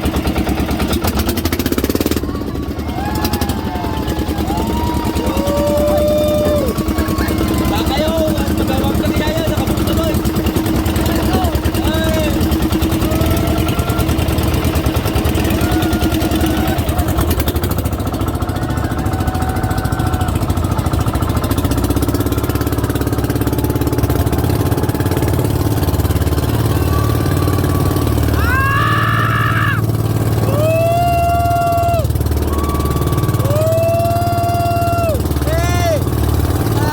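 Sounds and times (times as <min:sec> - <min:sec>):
boat engine running: 0:00.0 - 0:36.9.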